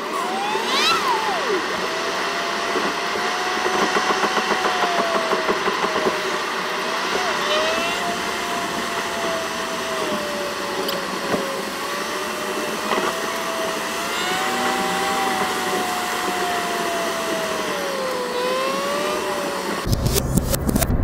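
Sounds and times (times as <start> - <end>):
sped-up engine whine: 0.0 - 21.0.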